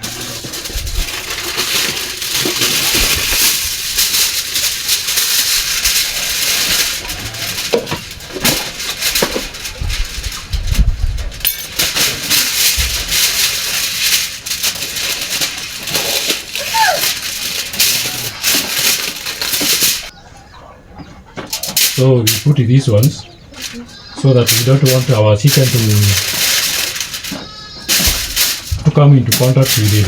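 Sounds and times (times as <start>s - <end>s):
food wrapping rustling: 0.0s - 20.2s, 21.4s - 30.0s.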